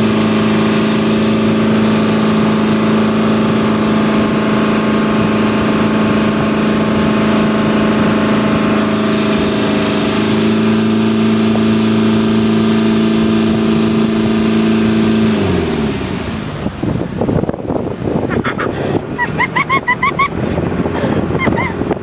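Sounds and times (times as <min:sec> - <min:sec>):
boat engine running: 0:00.0 - 0:22.0
rushing water: 0:00.0 - 0:22.0
wind: 0:00.0 - 0:22.0.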